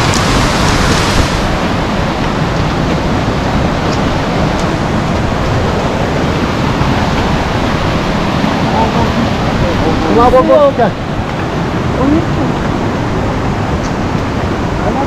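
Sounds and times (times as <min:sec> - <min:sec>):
loud rushing stream water: 0:00.0 - 0:15.0.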